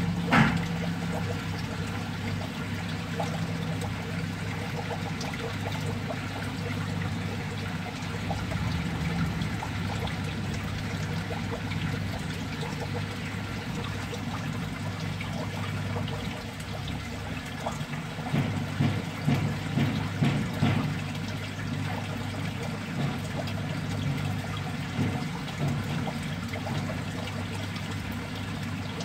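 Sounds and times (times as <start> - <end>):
splashes and clicks: 0.0 - 29.0
water trickling into tank: 0.0 - 29.0.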